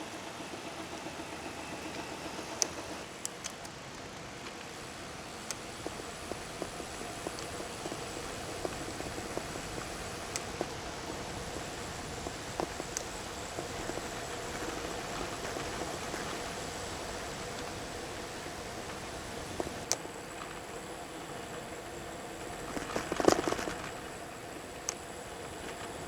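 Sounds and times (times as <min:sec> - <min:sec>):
faint clicks and ticks: 0:00.0 - 0:26.0.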